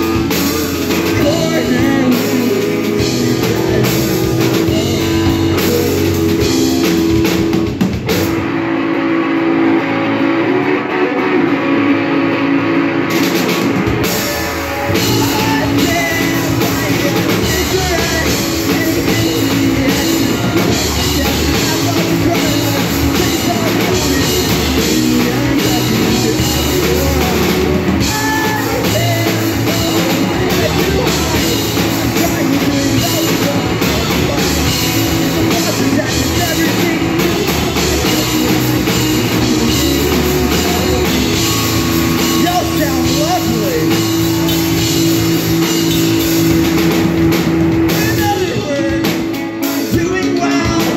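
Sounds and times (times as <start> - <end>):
person singing: 0.0 - 8.2, 9.6 - 50.9
drum kit: 0.0 - 50.9
electric guitars: 0.0 - 50.9.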